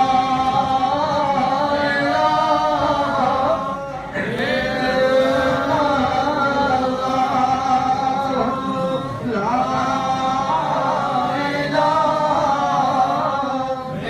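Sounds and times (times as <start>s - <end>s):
man singing slow chant: 0.0s - 14.0s.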